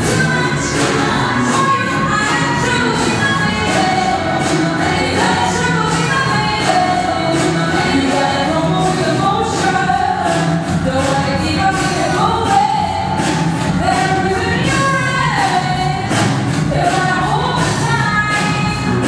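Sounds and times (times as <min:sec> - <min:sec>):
backing music with steady beat: 0:00.0 - 0:19.0
woman singing into a microphone: 0:00.0 - 0:19.0.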